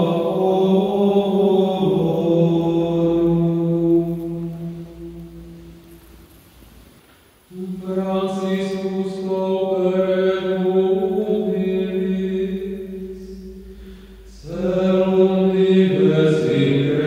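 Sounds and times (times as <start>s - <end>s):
slow sung chant: 0.0s - 17.0s.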